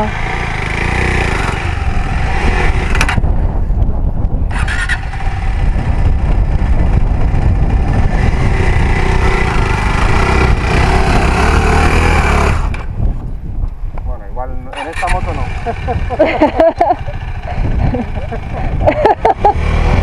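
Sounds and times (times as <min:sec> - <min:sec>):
motorcycle engine revving: 0:00.0 - 0:03.7, 0:04.3 - 0:13.1, 0:14.7 - 0:20.0.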